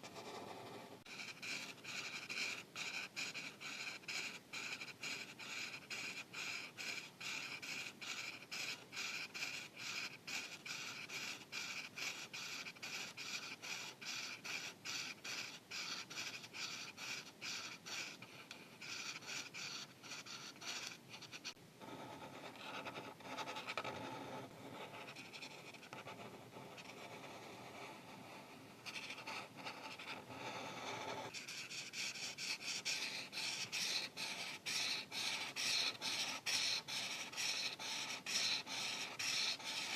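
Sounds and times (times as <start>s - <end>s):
marker rubbing on paper: 0.0s - 39.9s
marker scratching on paper: 0.0s - 39.9s.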